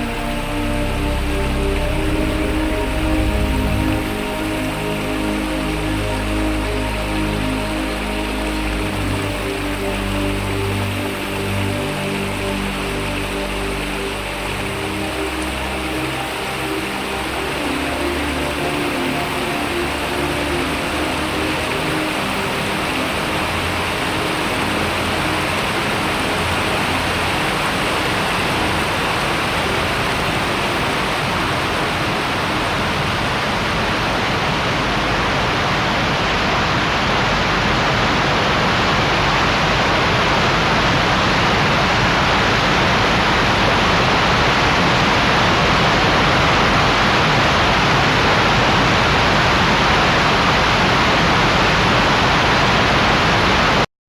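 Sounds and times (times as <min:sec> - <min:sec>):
waterfall rushing: 0:00.0 - 0:53.8.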